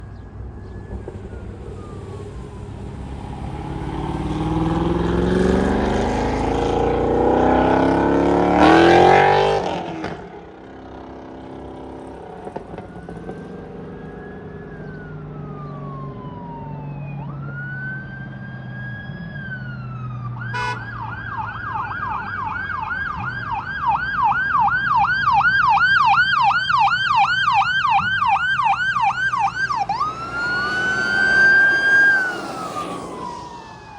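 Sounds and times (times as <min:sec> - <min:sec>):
emergency vehicle siren: 0:00.0 - 0:33.9
road noise: 0:00.0 - 0:33.9.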